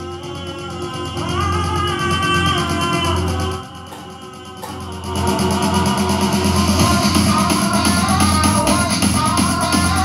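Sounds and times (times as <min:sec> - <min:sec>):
music with heavy bass line: 0:00.0 - 0:10.0.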